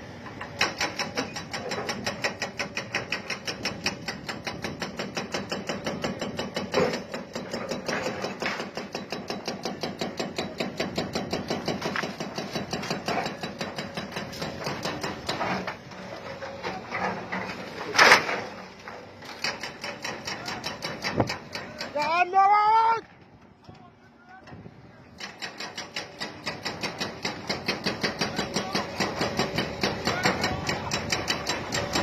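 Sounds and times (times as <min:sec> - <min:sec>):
demolition machinery hammering: 0:00.1 - 0:22.3, 0:25.1 - 0:32.0.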